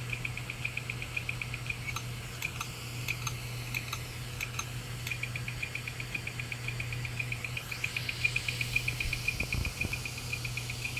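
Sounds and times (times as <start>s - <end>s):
hard drive head ticking: 0.0s - 10.9s
hard drive platters humming: 0.0s - 10.9s.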